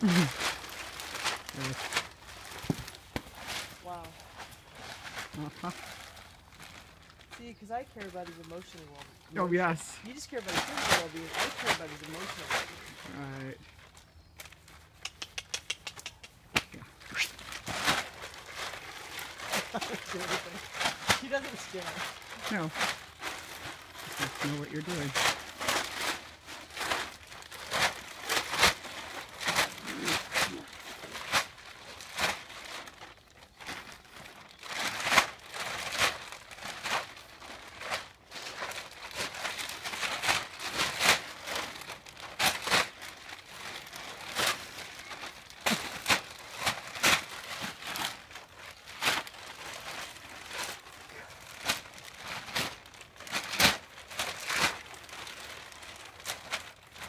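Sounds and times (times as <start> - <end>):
bag crinkling and rustling: 0.0 - 15.0, 16.9 - 57.0.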